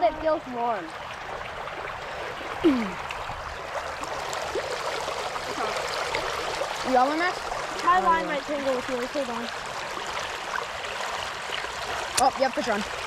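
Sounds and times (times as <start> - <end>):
creek water rushing over rocks: 0.0 - 13.0.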